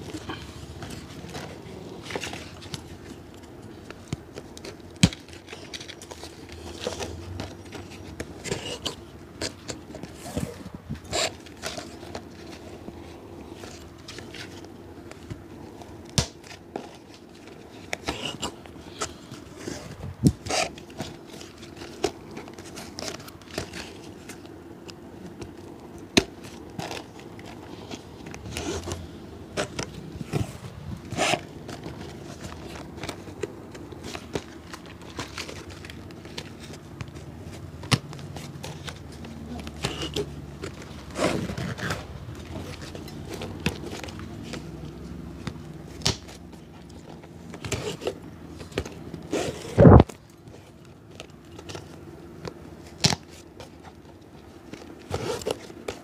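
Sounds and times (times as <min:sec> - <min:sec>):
scraping and rustling on shoe: 0:05.4 - 0:24.6, 0:26.3 - 0:56.0.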